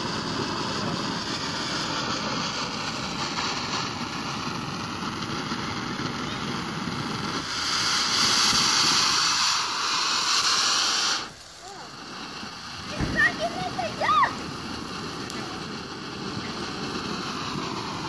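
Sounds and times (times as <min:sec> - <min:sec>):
firework fountain hissing: 0:00.0 - 0:18.0.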